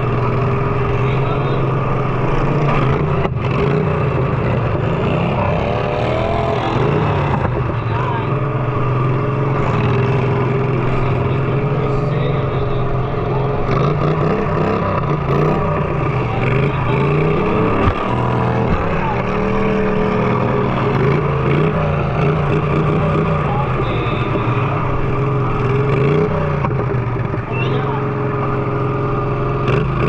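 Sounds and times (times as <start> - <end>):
lawnmower engines revving: 0.0 - 30.0.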